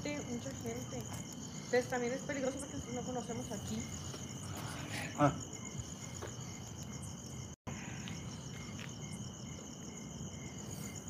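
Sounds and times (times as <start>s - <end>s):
insects trilling: 0.0s - 11.0s
low cricket chirps: 0.0s - 11.0s.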